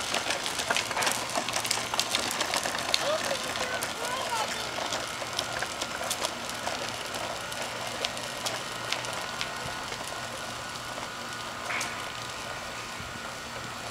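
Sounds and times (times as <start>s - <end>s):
plastic wheels rolling over bricks: 0.0s - 13.9s.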